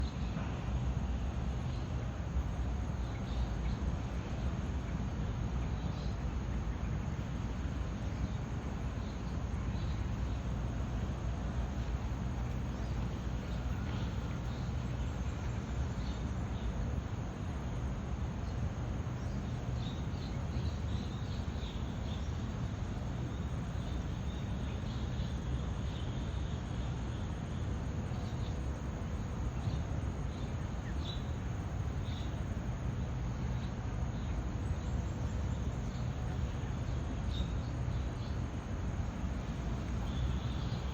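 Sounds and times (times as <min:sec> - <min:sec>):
low background rumble: 0:00.0 - 0:40.9.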